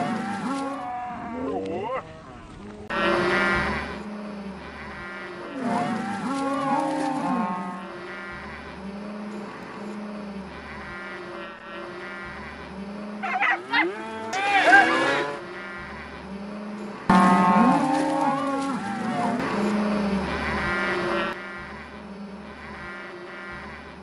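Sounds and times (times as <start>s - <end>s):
cattle mooing: 0.0s - 24.0s.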